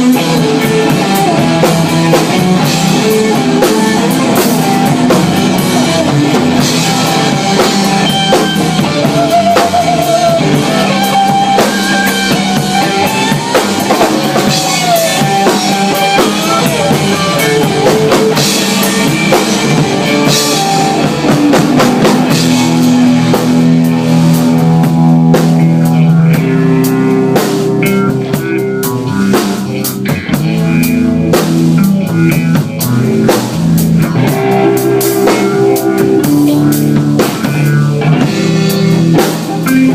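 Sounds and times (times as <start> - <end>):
bending melodic line: 0.0 - 39.9
drum kit with cymbals: 0.0 - 39.9
electric guitar: 0.0 - 39.9.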